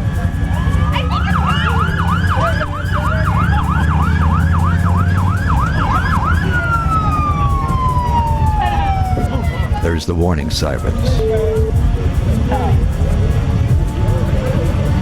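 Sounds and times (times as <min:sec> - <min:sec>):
warning siren yelping: 0:00.0 - 0:12.1
steady low rumble: 0:00.0 - 0:15.0.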